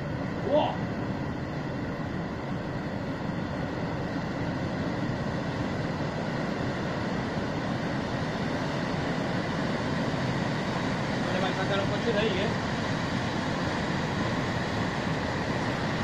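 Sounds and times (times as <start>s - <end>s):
heavy surf rushing ashore: 0.0s - 16.0s.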